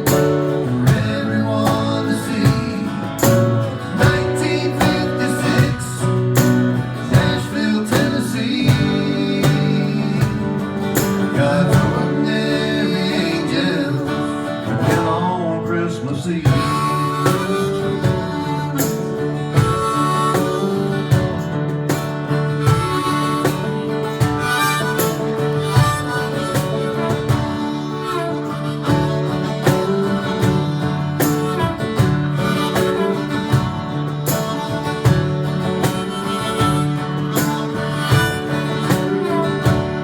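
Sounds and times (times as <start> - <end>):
steady drum beat: 0.0 - 15.3, 16.5 - 40.0
harmonica lead: 0.0 - 40.0
strummed guitars: 0.0 - 40.0.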